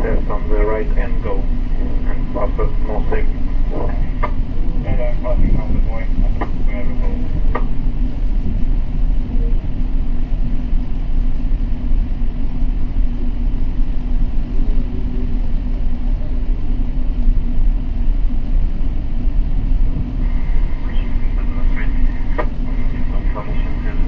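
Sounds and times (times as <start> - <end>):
low hum: 0.0 - 24.0
low rumble: 0.0 - 24.0.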